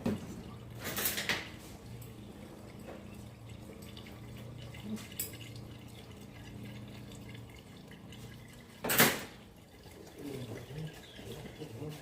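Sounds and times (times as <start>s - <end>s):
liquid pouring into reservoir: 0.0s - 12.0s.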